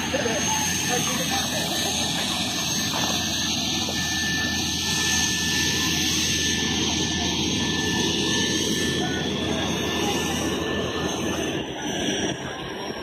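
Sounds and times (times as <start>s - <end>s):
aircraft engine drone overhead: 0.0s - 13.0s
thin steady whine: 0.0s - 13.0s.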